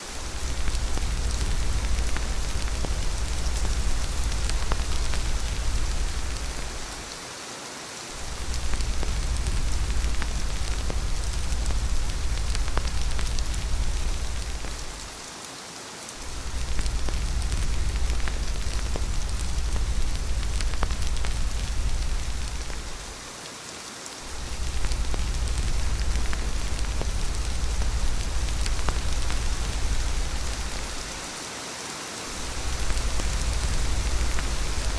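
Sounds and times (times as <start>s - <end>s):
rain hissing: 0.0s - 34.9s
raindrops ticking: 0.1s - 7.2s, 8.1s - 15.2s, 16.2s - 23.3s, 24.1s - 31.3s, 32.3s - 34.9s
deep low rumble: 0.2s - 7.0s, 8.2s - 15.1s, 16.3s - 23.2s, 24.3s - 31.2s, 32.4s - 34.9s.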